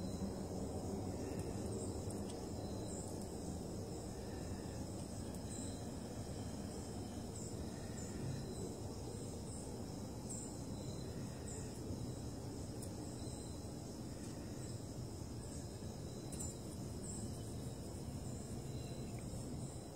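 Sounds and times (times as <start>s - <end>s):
crickets chorus: 0.0s - 19.9s.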